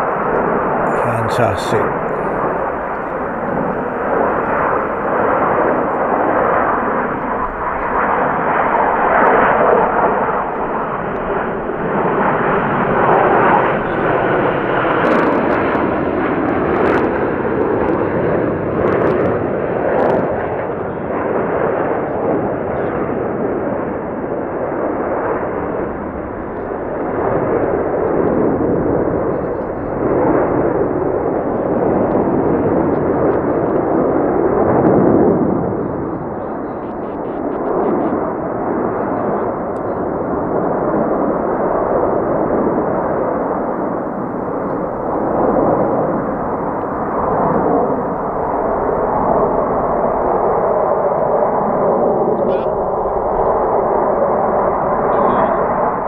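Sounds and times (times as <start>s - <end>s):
jets flying over: 0.0s - 17.6s, 20.4s - 56.0s.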